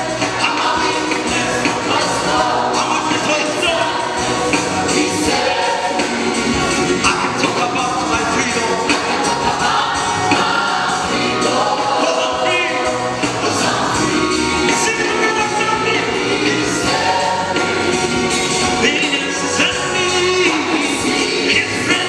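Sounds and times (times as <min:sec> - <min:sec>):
gospel choir singing: 0:00.0 - 0:22.0
instrumental backing: 0:00.0 - 0:22.0.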